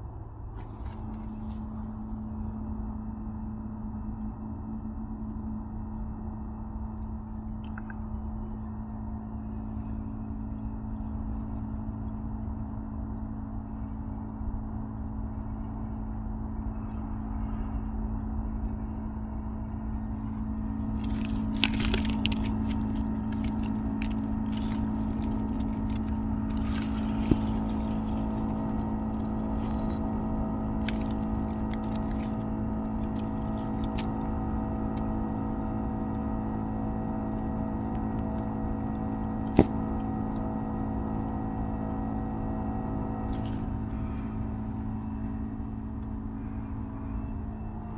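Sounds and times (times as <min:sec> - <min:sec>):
heat pump humming: 0:00.0 - 0:47.9.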